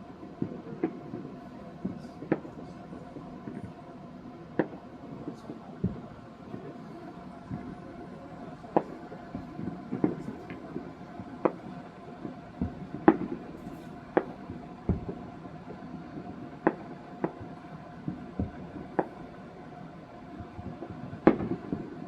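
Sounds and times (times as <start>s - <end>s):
distant fireworks bangs and pops: 0.0s - 22.0s.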